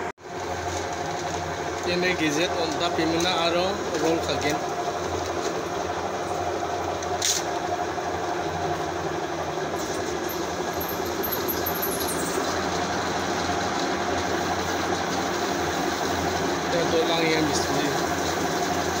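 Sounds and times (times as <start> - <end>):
coil winding machine running: 0.2 - 19.0.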